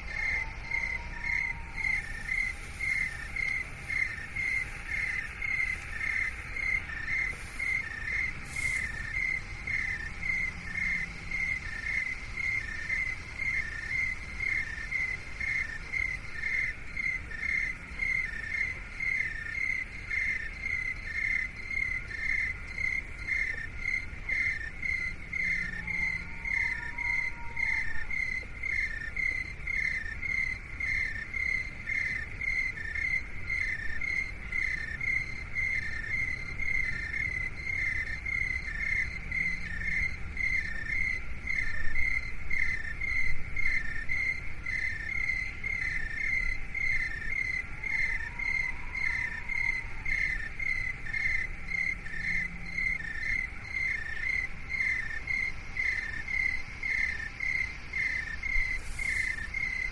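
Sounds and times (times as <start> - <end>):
cricket chirping: 0.0 - 59.9
low background rumble: 0.0 - 59.9.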